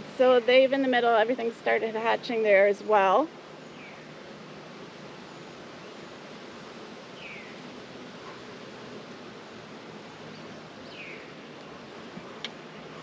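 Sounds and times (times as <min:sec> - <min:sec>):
honeybees humming: 0:00.0 - 0:13.0
outdoor noise: 0:00.0 - 0:13.0.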